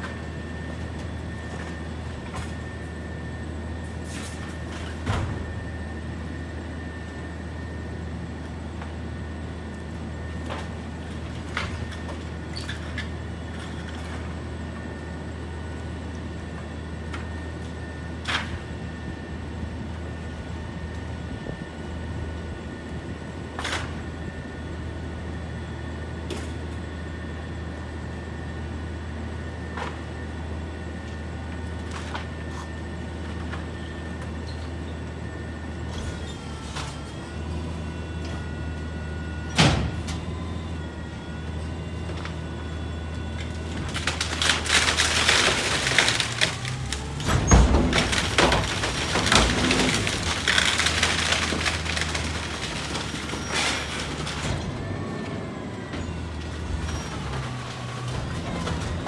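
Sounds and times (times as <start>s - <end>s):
garbage truck engine humming: 0.0s - 59.0s.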